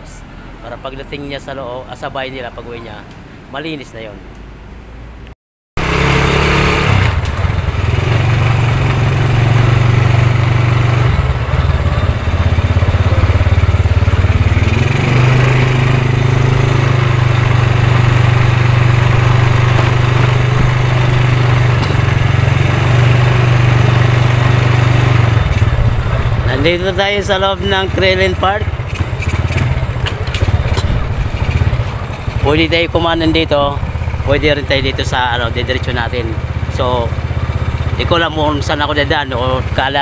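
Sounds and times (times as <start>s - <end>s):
motorcycle engine revving: 5.8s - 40.0s.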